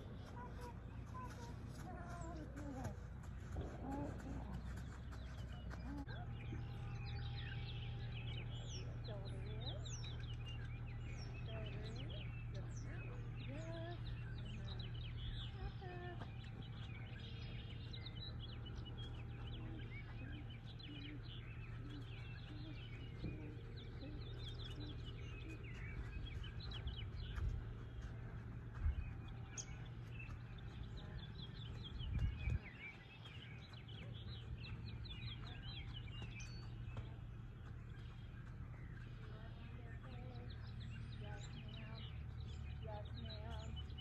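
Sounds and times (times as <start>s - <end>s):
low rumble: 0.0s - 44.0s
songbirds chirping: 0.0s - 44.0s
steady low hum: 0.0s - 44.0s.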